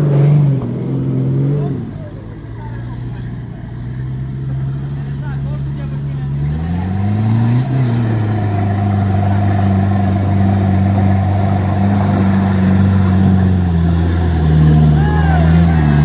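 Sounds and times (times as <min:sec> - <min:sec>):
engine pulling hard under load: 0:00.0 - 0:16.0.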